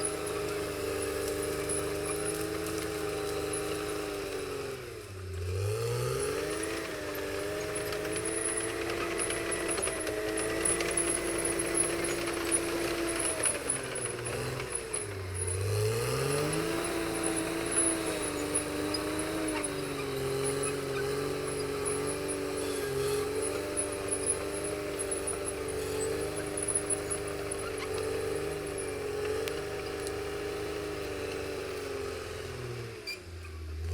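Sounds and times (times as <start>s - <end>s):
bulldozer diesel engine running: 0.0s - 33.9s.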